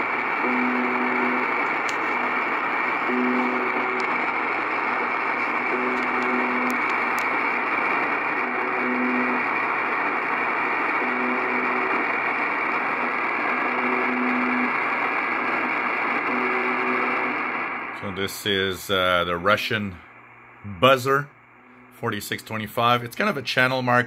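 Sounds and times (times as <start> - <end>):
low radio buzz: 0.0 - 24.0
shortwave static hiss: 0.0 - 24.0.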